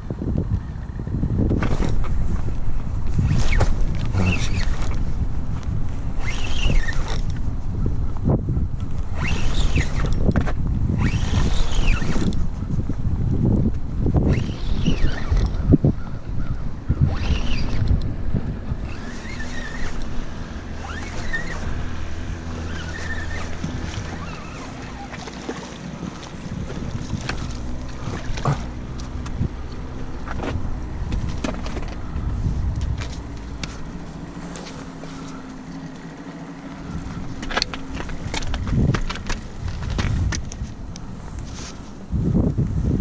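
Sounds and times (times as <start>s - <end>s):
motorboat engine droning: 0.0s - 43.0s
wind on microphone: 0.0s - 43.0s.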